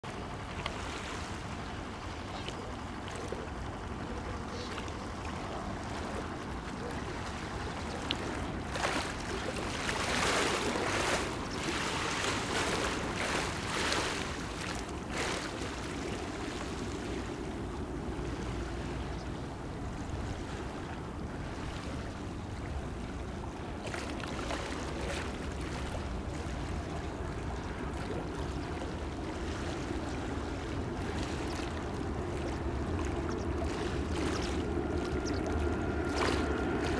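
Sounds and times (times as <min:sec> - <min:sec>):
surging water noise: 0:00.0 - 0:36.9
wind: 0:00.0 - 0:36.9.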